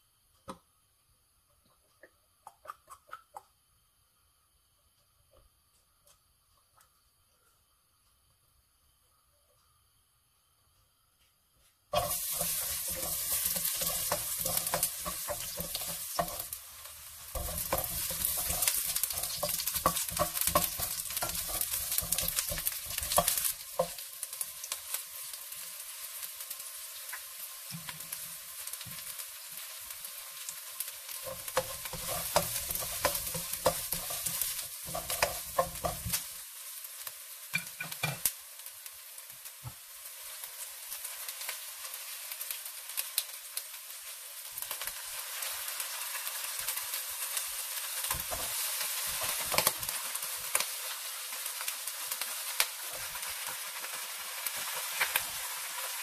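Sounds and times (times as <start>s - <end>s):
garlic and onion sizzling in oil: 0.0s - 56.0s.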